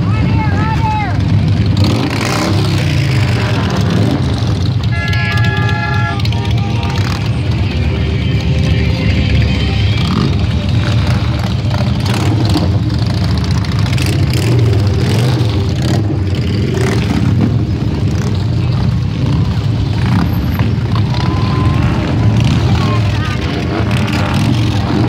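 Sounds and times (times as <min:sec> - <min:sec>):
motorcycles rumbling past: 0:01.2 - 0:25.0.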